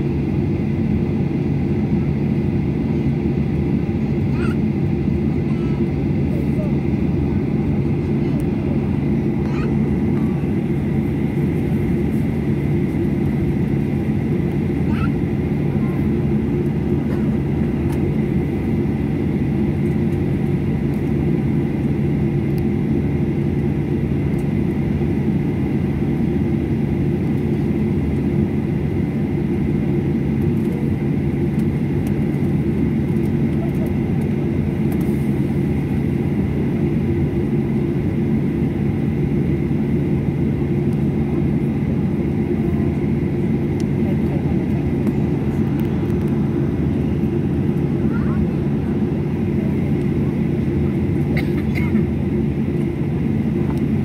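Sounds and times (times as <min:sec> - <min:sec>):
cabin air running: 0:00.0 - 0:54.0
jet engines idling hum: 0:00.0 - 0:54.0.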